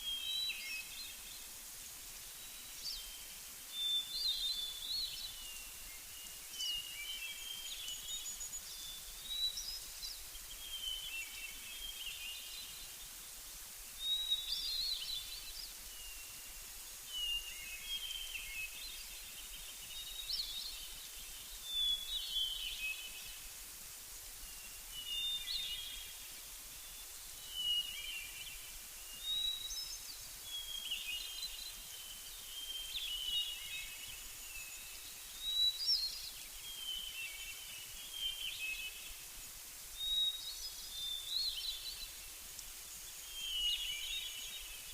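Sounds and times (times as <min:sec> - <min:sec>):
songbirds chirping: 0:00.0 - 0:44.9
steady high hiss: 0:00.0 - 0:44.9.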